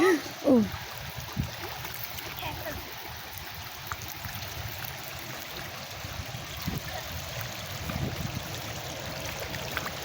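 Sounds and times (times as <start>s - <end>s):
stream water running: 0.0s - 10.0s.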